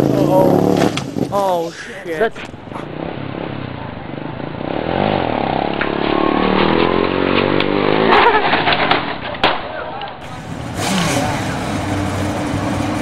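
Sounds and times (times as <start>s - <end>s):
motorcycle engine revving: 0.0s - 1.5s, 2.5s - 8.7s, 10.2s - 13.0s.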